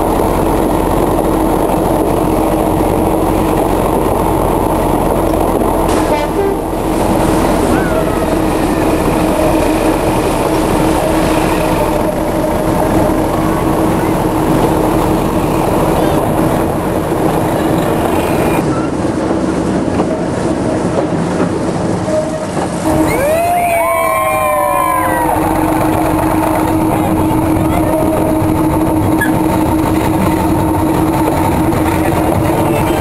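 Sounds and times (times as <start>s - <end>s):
train wheels rumbling and clattering: 0.0s - 33.0s.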